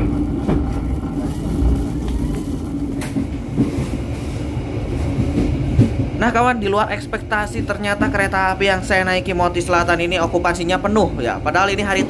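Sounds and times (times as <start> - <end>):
constant hum: 0.0 - 12.0
train low rumble: 0.0 - 12.0.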